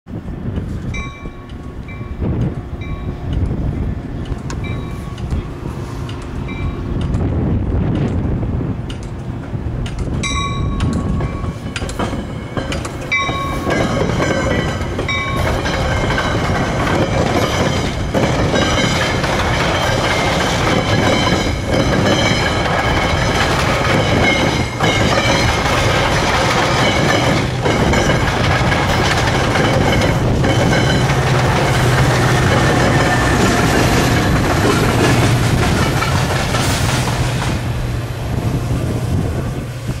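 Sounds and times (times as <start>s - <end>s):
diesel locomotive engine drone: 0.1s - 40.0s
train wheels clicking over rail joints: 0.5s - 40.0s.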